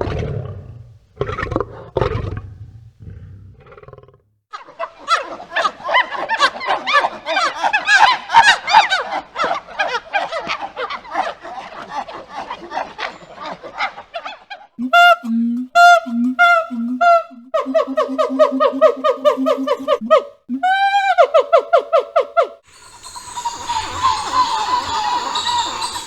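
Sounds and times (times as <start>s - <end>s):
monkeys chattering and shrieking: 4.6s - 26.0s.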